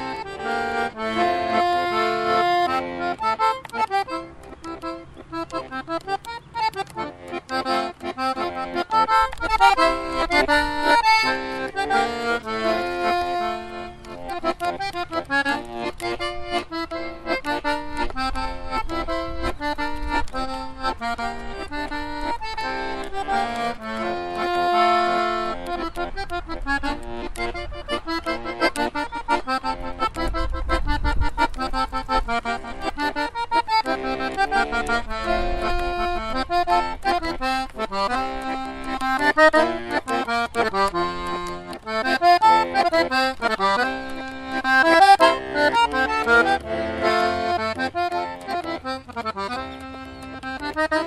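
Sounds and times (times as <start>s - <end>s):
button accordion melody: 0.0s - 51.0s.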